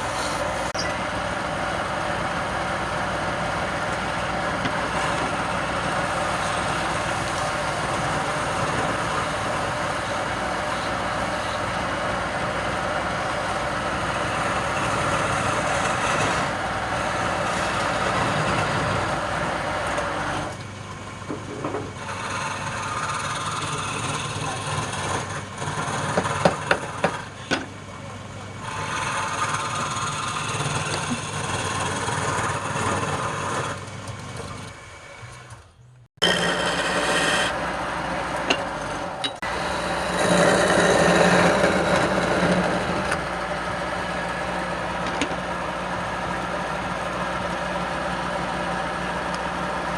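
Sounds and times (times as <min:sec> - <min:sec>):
tool working spinning wood: 0:00.0 - 0:20.6, 0:21.2 - 0:49.9
wood lathe motor hum: 0:00.0 - 0:20.6, 0:21.6 - 0:35.6, 0:36.2 - 0:49.9.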